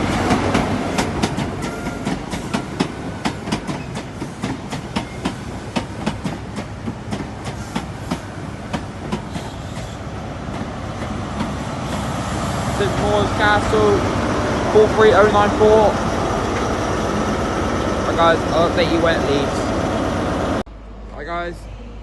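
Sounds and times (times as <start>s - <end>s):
train wheels clicking over rail joints: 0.0s - 19.7s.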